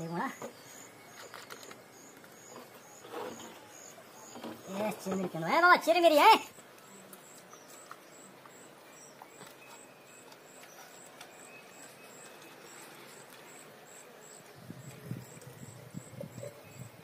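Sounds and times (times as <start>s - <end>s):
insect chirping: 0.0s - 5.2s, 6.3s - 17.0s.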